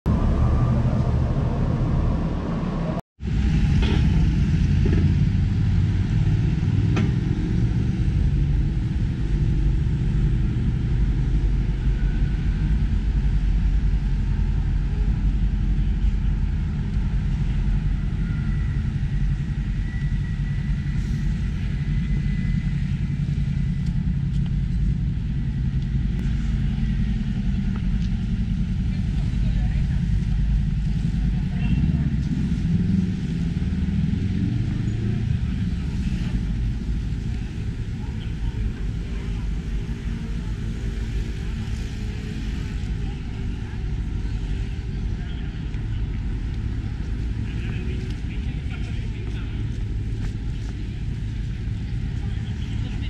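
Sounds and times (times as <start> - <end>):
road traffic rumble: 0.1 - 53.0.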